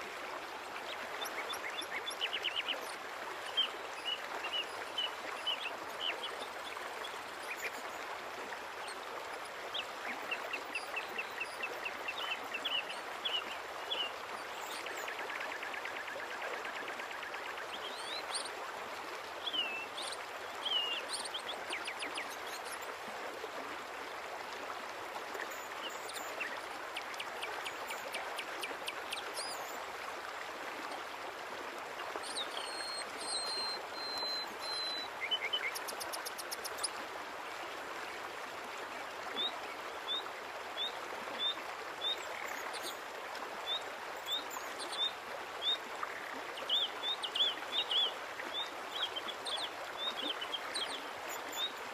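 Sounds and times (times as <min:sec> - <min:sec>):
running water rushing: 0:00.0 - 0:51.9.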